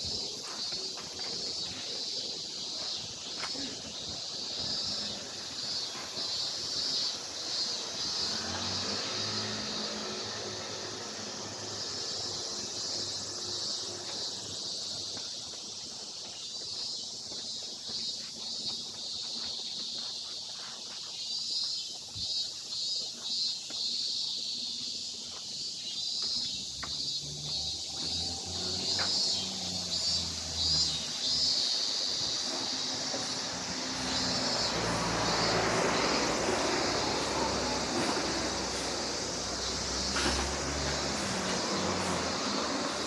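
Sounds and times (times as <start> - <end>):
cicadas buzzing: 0.0 - 43.0.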